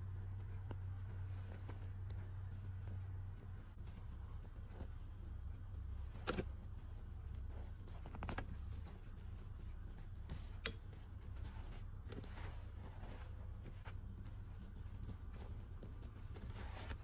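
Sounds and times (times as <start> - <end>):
doll handling clicks and rustles: 0.0 - 17.0
steady low hum: 0.0 - 17.0.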